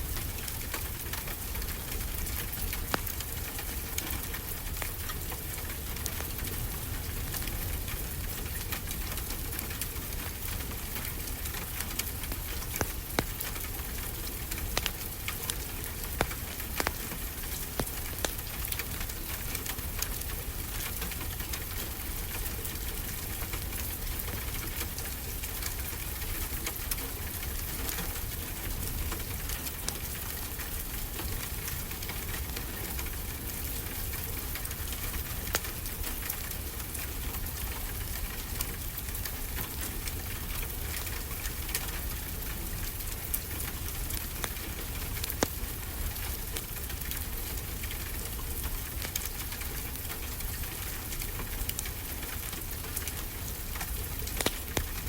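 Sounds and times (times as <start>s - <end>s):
fireplace crackling and popping: 0.0s - 55.0s.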